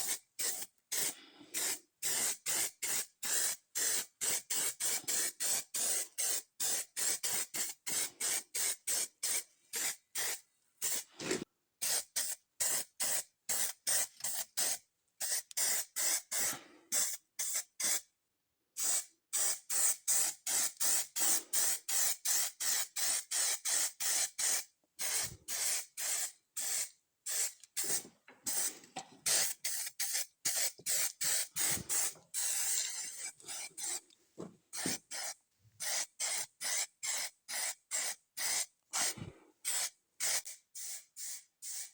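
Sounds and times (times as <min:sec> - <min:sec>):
spray paint hissing bursts: 0:00.0 - 0:18.1, 0:18.8 - 0:34.0, 0:34.7 - 0:41.9.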